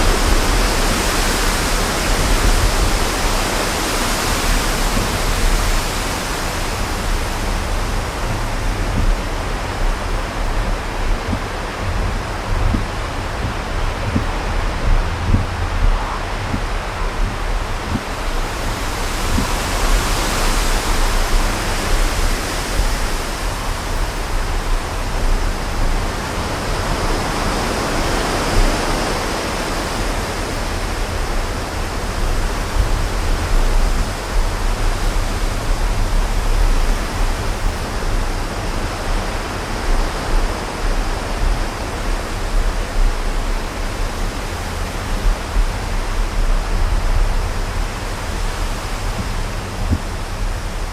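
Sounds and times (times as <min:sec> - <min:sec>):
strong wind gusting: 0:00.0 - 0:50.9
wind buffeting the microphone: 0:00.0 - 0:50.9.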